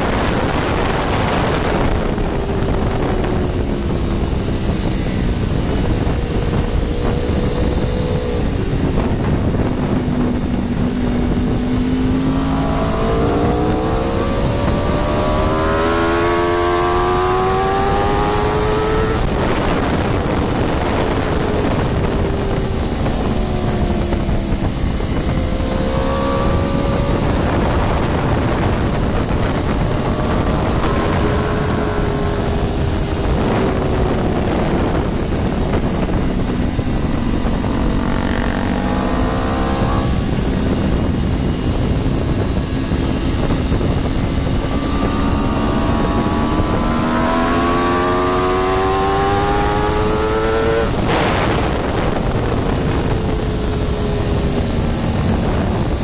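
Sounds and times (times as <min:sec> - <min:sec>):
heavy wind noise: 0:00.0 - 0:56.0
motorcycle engine accelerating: 0:00.0 - 0:56.0.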